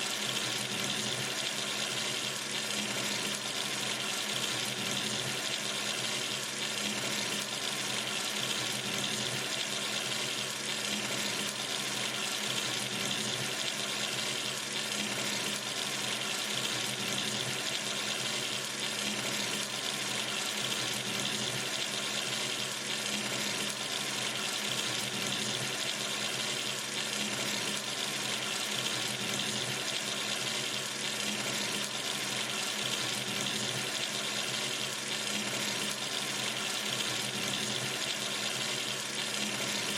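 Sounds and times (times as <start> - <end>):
water running from tap into sink: 0.0 - 39.9.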